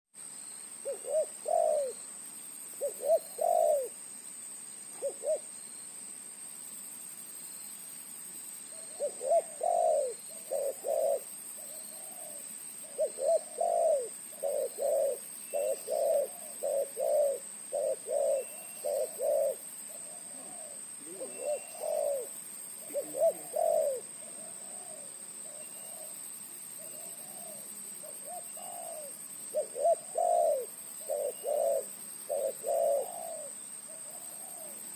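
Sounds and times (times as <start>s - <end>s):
dove cooing: 0.8s - 2.0s, 2.8s - 4.0s, 4.9s - 5.5s, 8.7s - 26.2s, 26.8s - 34.9s.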